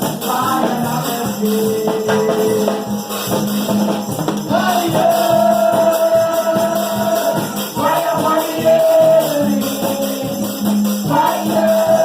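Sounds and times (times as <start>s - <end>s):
drums beating: 0.0s - 12.0s
gospel music: 0.0s - 12.0s
tambourine shaking: 0.0s - 12.0s.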